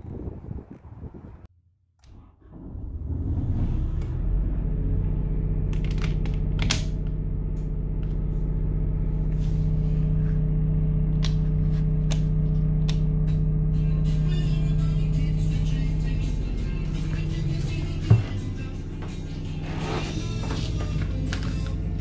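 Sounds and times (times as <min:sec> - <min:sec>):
diesel generator humming: 0:02.2 - 0:22.0.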